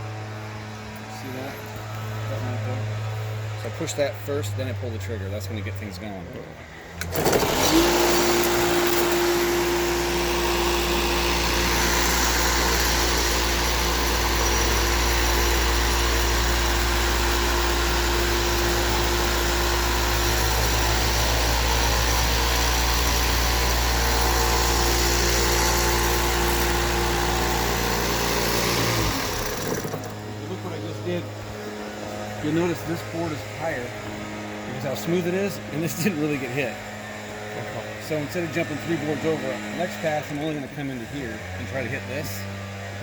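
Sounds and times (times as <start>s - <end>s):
floor sander motor running: 7.0s - 43.0s.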